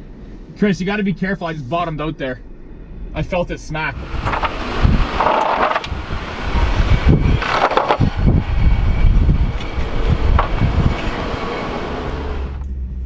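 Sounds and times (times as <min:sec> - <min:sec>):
car engine running: 0:00.0 - 0:13.0
rushing noise: 0:00.0 - 0:13.0.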